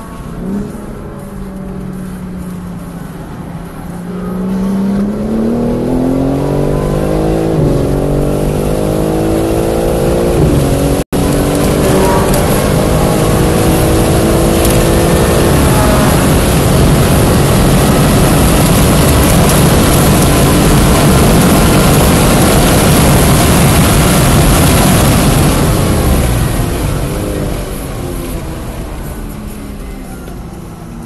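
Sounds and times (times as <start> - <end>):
car engine accelerating: 0.0 - 31.0
wind noise: 4.6 - 29.8.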